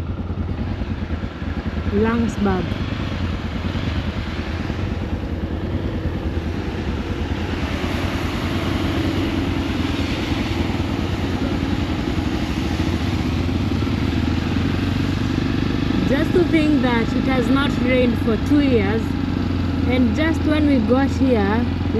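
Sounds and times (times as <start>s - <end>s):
motorcycle engine running: 0.0s - 21.9s
wind and road noise: 0.0s - 21.9s.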